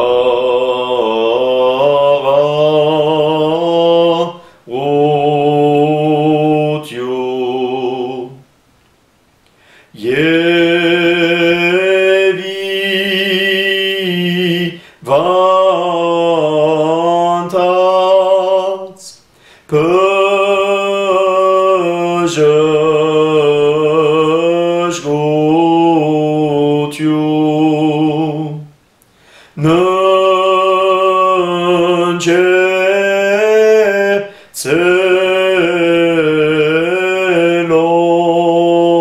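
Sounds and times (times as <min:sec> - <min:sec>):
man chanting a prayer: 0:00.0 - 0:08.4, 0:10.0 - 0:28.7, 0:29.6 - 0:39.0.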